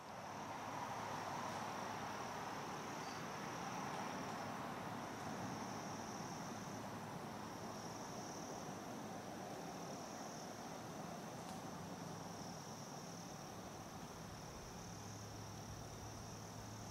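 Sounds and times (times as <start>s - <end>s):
woodland background hiss: 0.0s - 16.9s
insects trilling: 0.2s - 16.9s.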